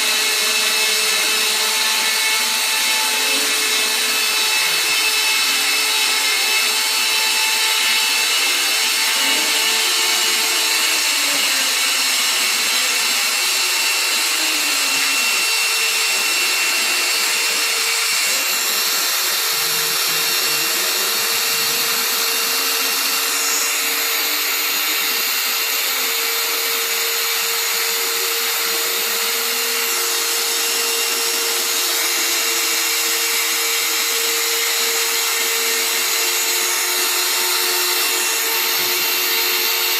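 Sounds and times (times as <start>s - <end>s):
router cutting noise: 0.0s - 39.9s
router spindle hum: 0.0s - 39.9s.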